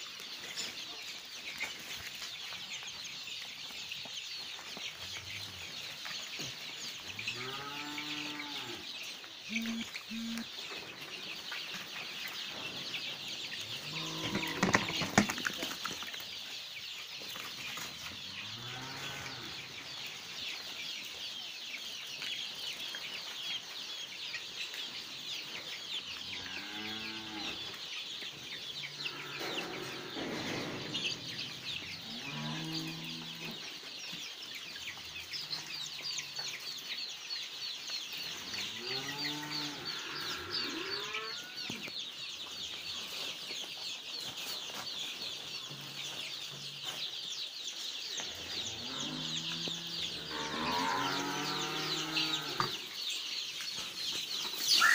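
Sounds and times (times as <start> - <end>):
chicks cheeping: 0.0 - 54.9.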